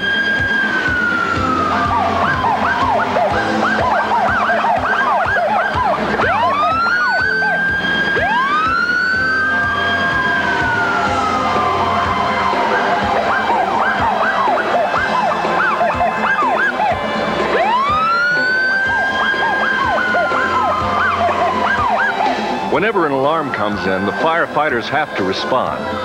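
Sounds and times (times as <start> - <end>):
fire engine siren wails: 0.0 - 26.0
fire engine siren yelp: 0.0 - 26.0
truck engine running: 0.0 - 26.0.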